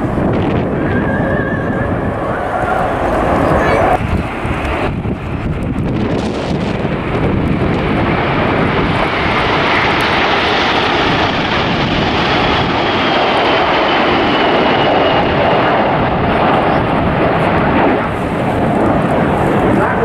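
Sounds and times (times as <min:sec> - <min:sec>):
high jet whine falling in pitch: 0:00.0 - 0:20.0
jet engines roaring overhead: 0:00.0 - 0:20.0.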